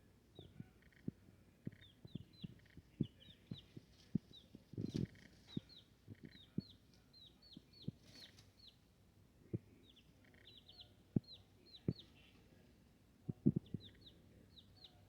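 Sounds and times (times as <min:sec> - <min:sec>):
chicks peeping: 0:00.3 - 0:08.8, 0:09.5 - 0:12.6, 0:13.3 - 0:15.0.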